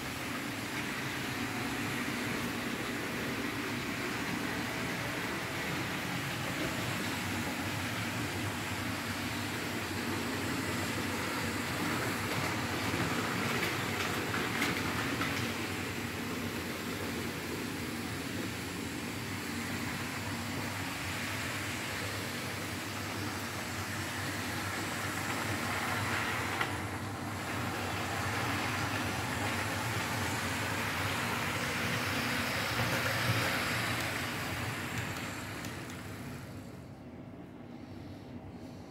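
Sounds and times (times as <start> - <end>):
model train running on track: 0.0 - 37.5.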